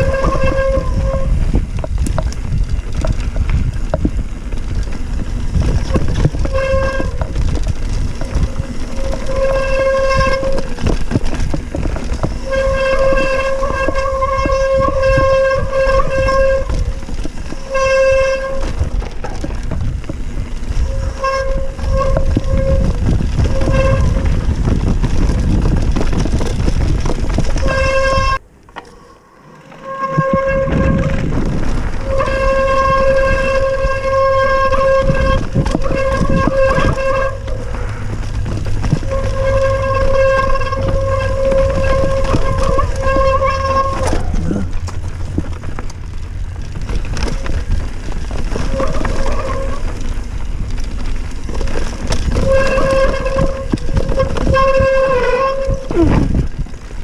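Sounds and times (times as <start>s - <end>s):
wind on microphone: 0.0s - 28.4s, 30.0s - 57.0s
disc brakes howling: 0.0s - 57.0s
tyres rattling on rocky trail: 0.0s - 57.0s.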